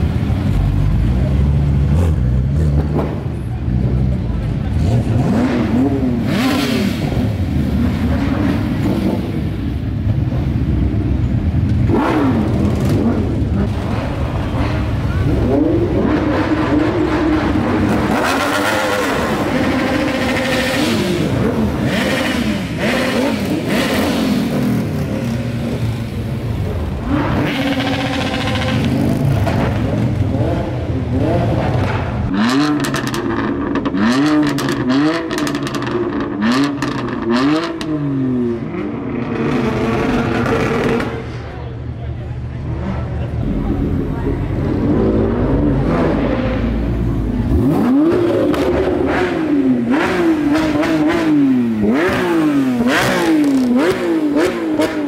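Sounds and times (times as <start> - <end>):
car engines revving hard: 0.0 - 55.0
street traffic noise: 0.0 - 55.0.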